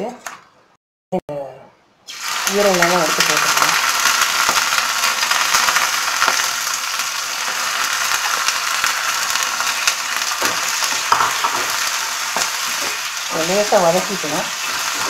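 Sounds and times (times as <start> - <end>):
liver sizzling in hot oil: 2.1 - 15.0.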